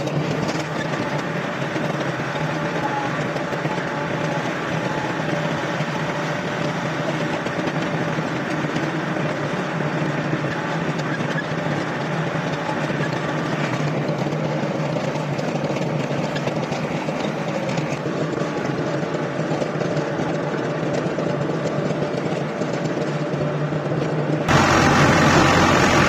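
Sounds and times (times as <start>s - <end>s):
tractor diesel engine humming: 0.0s - 26.0s.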